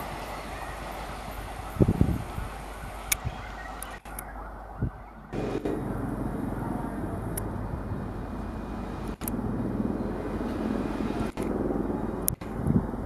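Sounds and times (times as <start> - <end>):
diesel locomotive engine droning: 0.0 - 13.0.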